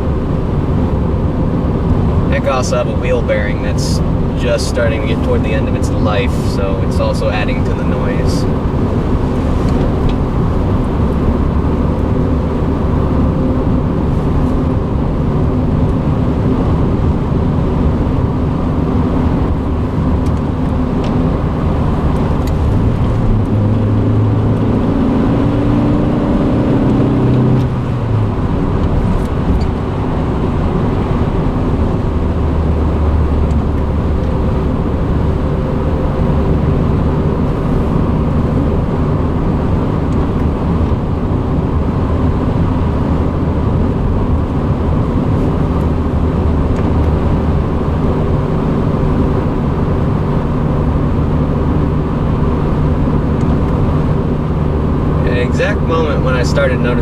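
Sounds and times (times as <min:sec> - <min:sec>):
car engine running: 0:00.0 - 0:57.0
road and tyre noise: 0:00.0 - 0:57.0.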